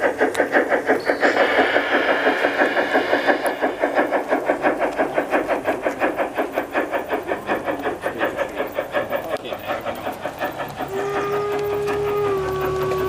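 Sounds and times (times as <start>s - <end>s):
model steam locomotive chuffing: 0.0s - 13.0s
steam hiss: 0.0s - 13.0s.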